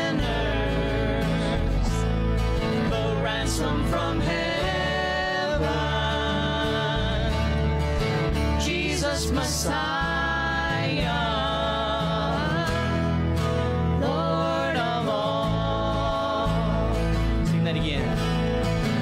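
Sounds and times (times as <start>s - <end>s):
worship band instruments: 0.0s - 19.0s.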